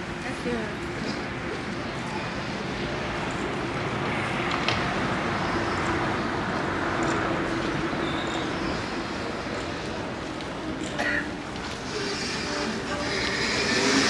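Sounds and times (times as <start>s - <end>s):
low steady drone: 0.0s - 14.0s
traffic hum: 0.0s - 14.0s.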